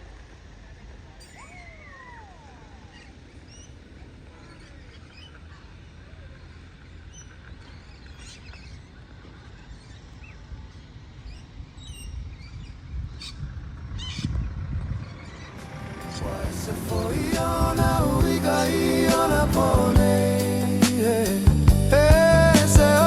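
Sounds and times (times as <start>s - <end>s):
low outdoor rumble: 0.0s - 23.0s
birds chirping: 1.2s - 23.0s.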